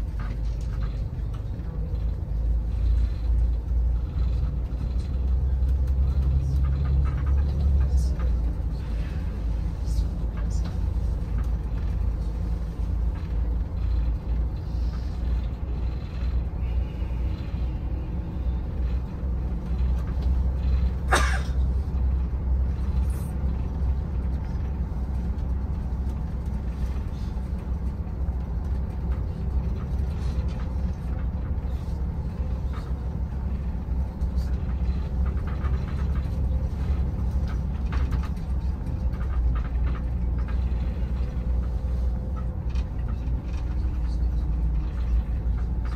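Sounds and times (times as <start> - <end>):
bus engine and road rumble: 0.0 - 45.9.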